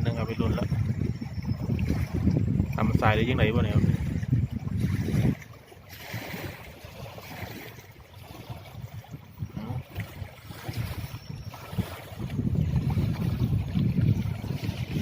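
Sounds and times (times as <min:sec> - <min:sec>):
water lapping: 0:00.0 - 0:15.0
wind gusting over microphone: 0:00.0 - 0:15.0.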